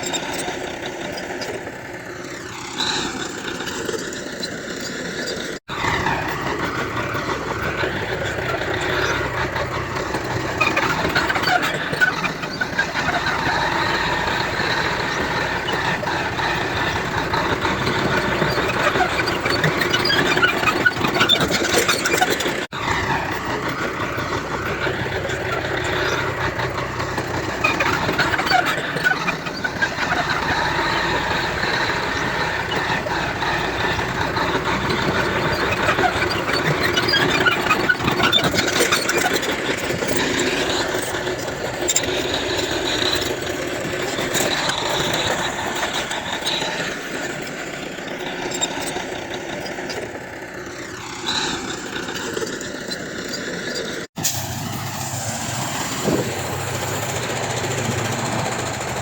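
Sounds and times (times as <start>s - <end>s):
metallic ticks and squeaks: 0.0s - 54.4s, 55.7s - 59.0s
diesel engines running: 0.0s - 59.0s.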